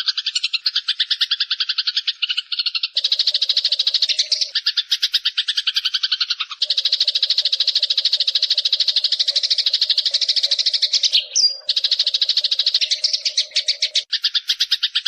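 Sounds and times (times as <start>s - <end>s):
sparrows chattering harshly: 0.0s - 15.0s.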